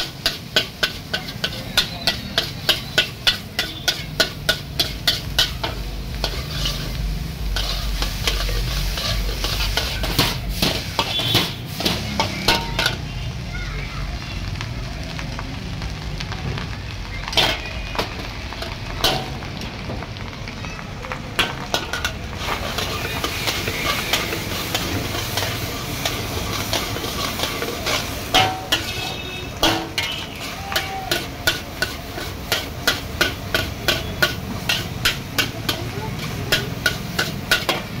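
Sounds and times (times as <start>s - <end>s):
metal spatula clanking on wok: 0.0s - 13.1s, 17.3s - 19.5s, 21.4s - 38.0s
frying sizzle: 0.0s - 38.0s.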